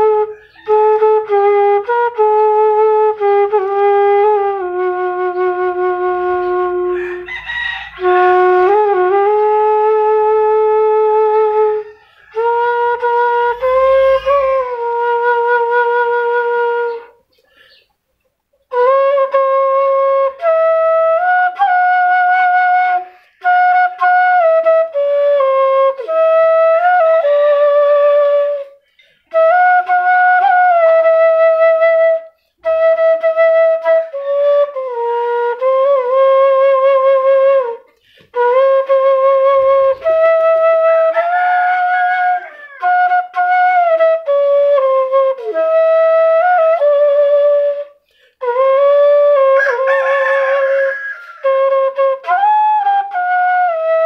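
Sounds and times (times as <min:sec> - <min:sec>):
bamboo flute melody: 0:00.0 - 0:17.9, 0:18.5 - 0:54.0.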